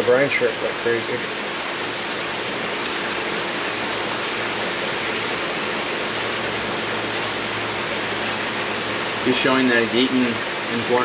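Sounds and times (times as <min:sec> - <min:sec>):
aquarium water rushing: 0:00.0 - 0:11.0.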